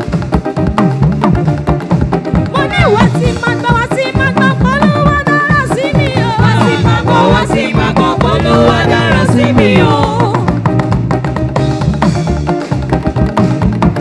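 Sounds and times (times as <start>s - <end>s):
bass line: 0.0s - 14.0s
bending lead melody: 0.0s - 14.0s
drums and percussion: 0.0s - 14.0s.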